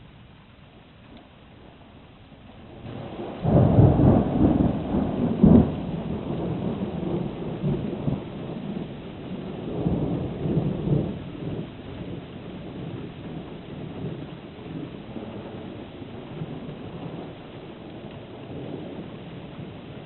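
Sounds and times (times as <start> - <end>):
thunder rumbling: 1.5 - 20.0.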